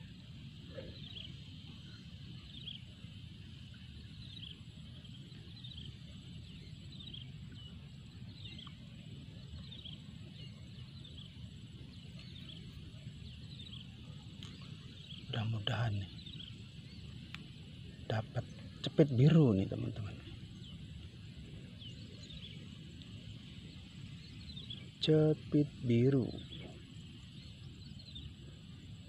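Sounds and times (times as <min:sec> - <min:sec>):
bird chirping: 0:00.0 - 0:29.0
low background rumble: 0:00.0 - 0:29.0.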